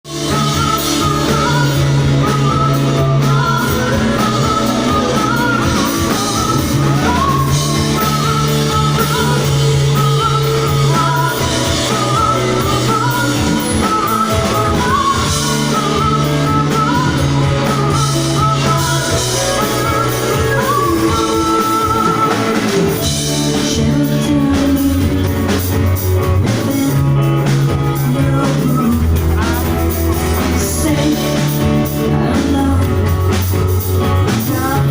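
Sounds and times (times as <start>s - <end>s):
rock band playing live: 0.0s - 34.9s
person singing: 0.1s - 34.9s.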